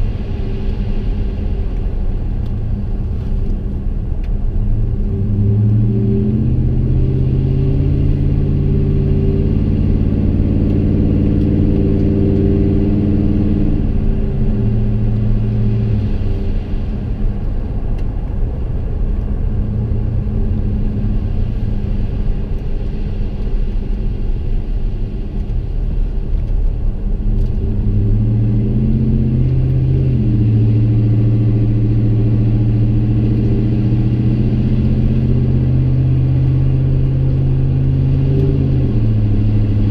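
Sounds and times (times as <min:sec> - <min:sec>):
truck engine inside cab: 0:00.0 - 0:39.9.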